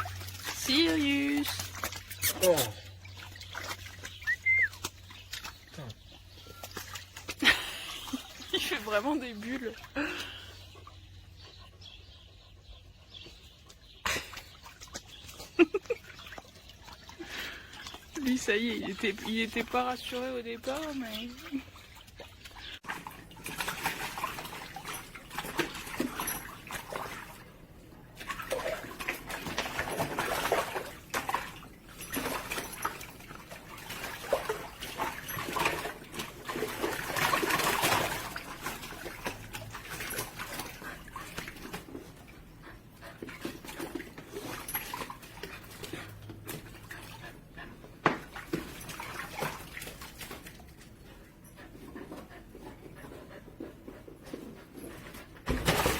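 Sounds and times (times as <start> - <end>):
dog splashing in water: 0.0 - 10.9, 14.0 - 51.5, 55.0 - 55.9.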